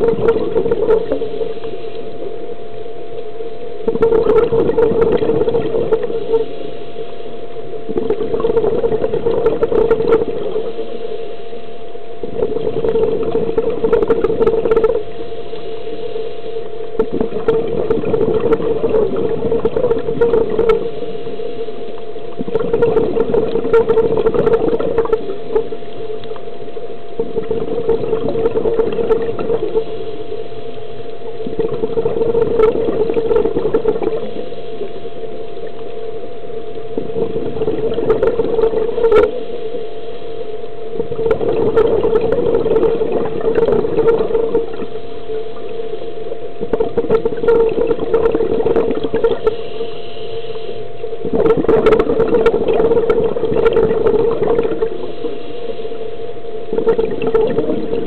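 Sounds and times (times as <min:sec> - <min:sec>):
exhaled bubbles underwater: 0:00.0 - 0:58.0
steady hum: 0:00.0 - 0:58.0.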